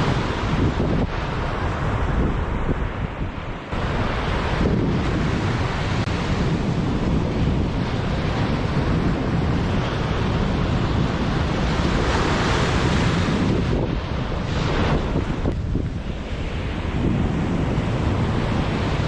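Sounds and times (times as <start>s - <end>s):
surf washing: 0.0s - 19.0s
wind buffeting microphone: 0.0s - 19.0s.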